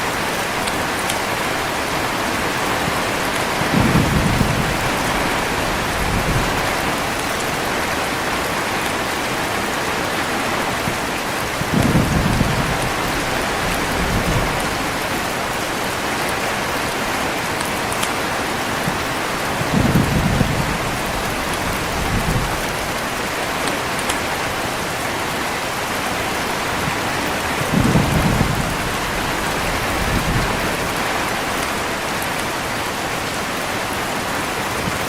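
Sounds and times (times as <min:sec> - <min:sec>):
heavy rain falling: 0:00.0 - 0:35.0
low thunder rumbles: 0:00.1 - 0:08.5, 0:10.4 - 0:17.5, 0:18.4 - 0:25.0, 0:26.2 - 0:32.2.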